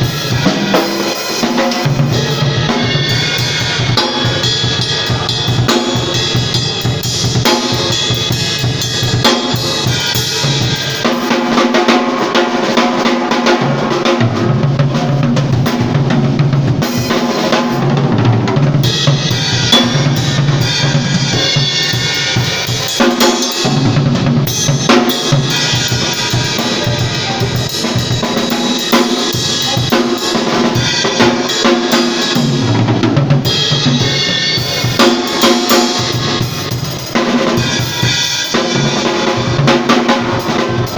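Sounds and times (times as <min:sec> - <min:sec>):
drum kit playing: 0:00.0 - 0:40.9
live band music: 0:00.0 - 0:40.9.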